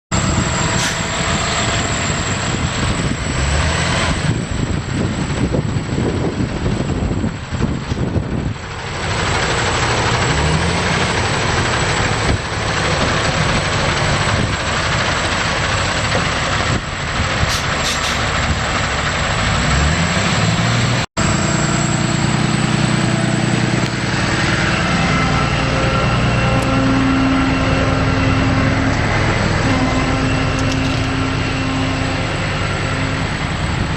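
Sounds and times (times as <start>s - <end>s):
diesel truck engine revving: 0.1s - 33.9s.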